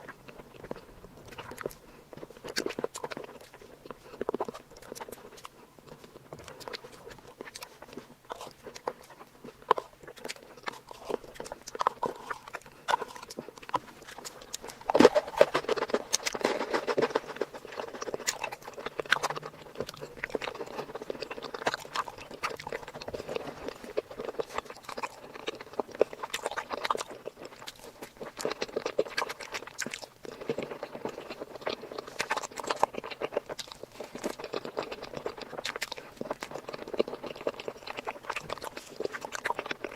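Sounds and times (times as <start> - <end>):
person chewing sweets: 0.0 - 39.9.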